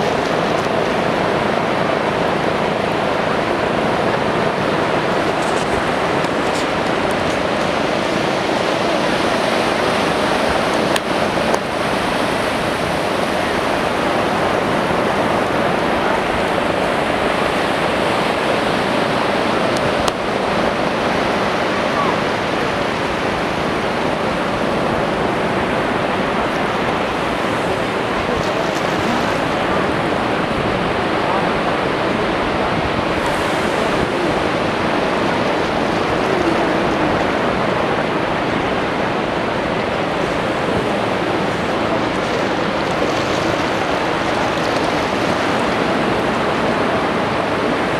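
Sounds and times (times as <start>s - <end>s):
sea surf washing onto beach: 0.0s - 47.9s.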